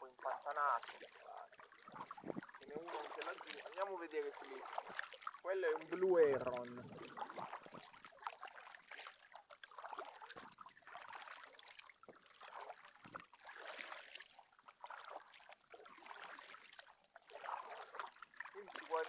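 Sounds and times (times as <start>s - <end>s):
kayak paddle splashing in water: 0.0s - 19.0s.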